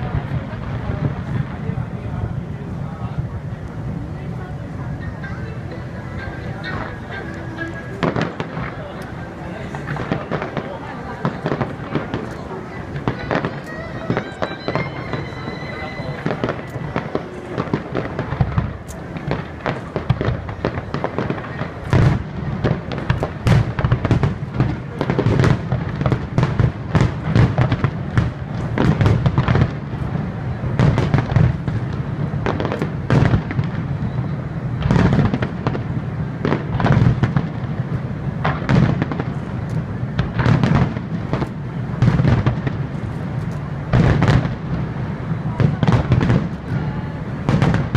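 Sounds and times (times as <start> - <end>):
fireworks booming: 0.0 - 47.9.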